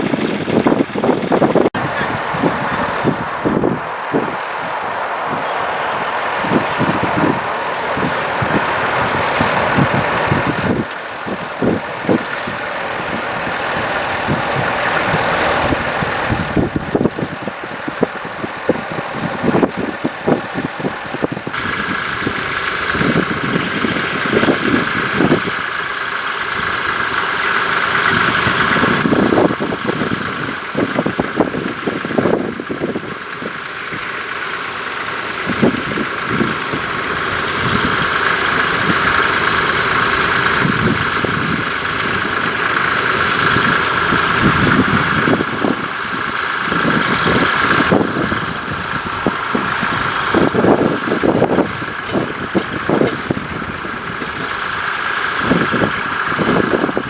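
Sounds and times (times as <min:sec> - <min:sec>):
steady whine: 0:00.0 - 0:57.0
tractor engine under load: 0:00.0 - 0:57.0.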